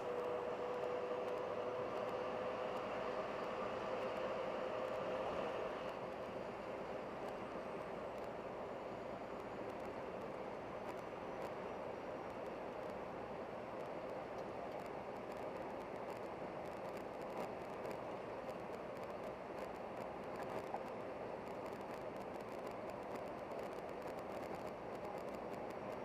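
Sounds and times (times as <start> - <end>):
vehicle running rumble and hiss: 0.0 - 26.0.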